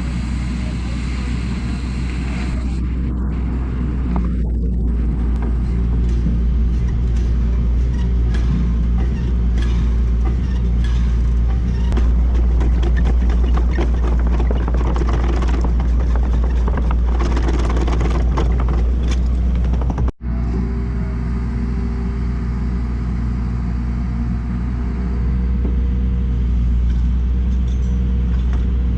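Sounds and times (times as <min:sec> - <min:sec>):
heavy engine running: 0:00.0 - 0:28.9.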